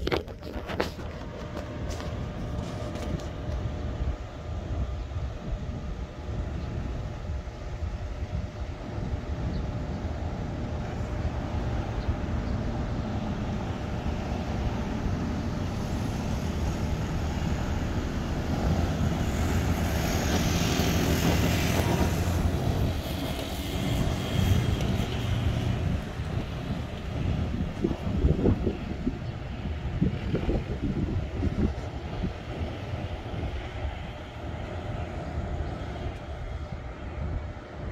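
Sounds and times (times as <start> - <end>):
airplane engine rushing overhead: 0.0 - 37.9
steady low rumble: 0.0 - 37.9.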